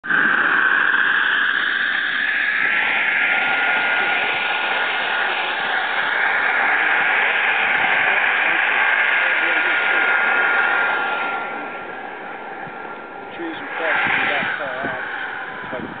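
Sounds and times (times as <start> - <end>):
model jet engine whine: 0.0 - 16.0.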